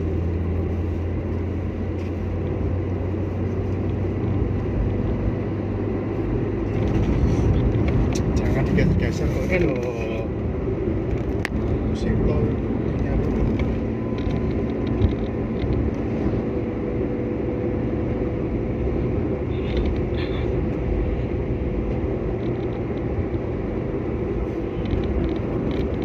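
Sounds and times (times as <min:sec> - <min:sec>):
car cabin road and engine noise: 0:00.0 - 0:26.0.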